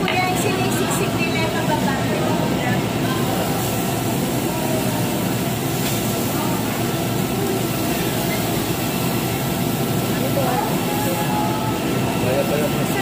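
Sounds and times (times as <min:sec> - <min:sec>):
faint voices: 0:00.0 - 0:13.0
ventilation fans humming: 0:00.0 - 0:13.0.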